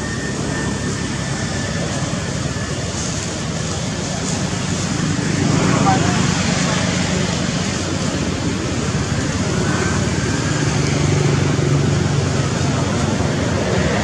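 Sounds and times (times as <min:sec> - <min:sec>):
outdoor background noise: 0:00.0 - 0:14.0
passing motor vehicle hum: 0:00.0 - 0:14.0.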